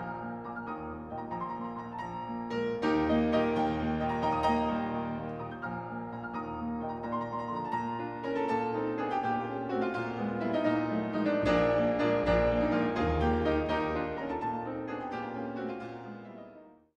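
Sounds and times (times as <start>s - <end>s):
classical piano music: 0.0s - 16.9s.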